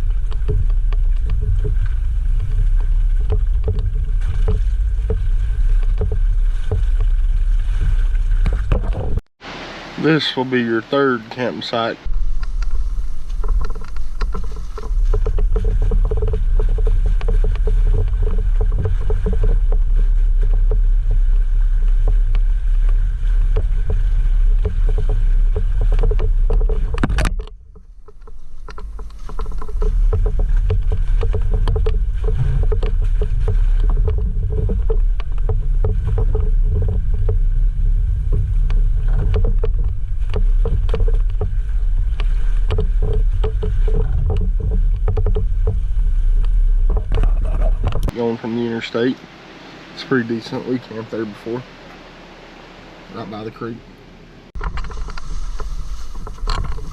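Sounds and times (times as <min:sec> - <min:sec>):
tyres crunching over rocks and gravel: 0:00.0 - 0:09.2, 0:11.4 - 0:52.0
engine and drivetrain rumble: 0:00.0 - 0:56.9.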